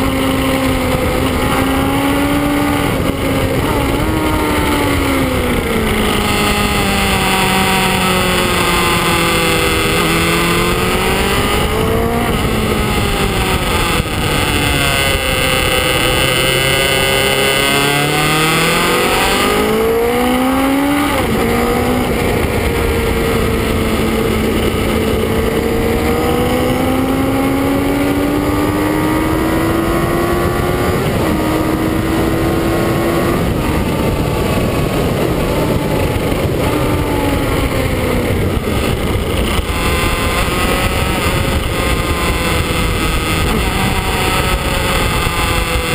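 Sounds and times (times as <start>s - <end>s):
motorcycle engine at speed: 0.0s - 45.9s
wind noise: 0.0s - 45.9s.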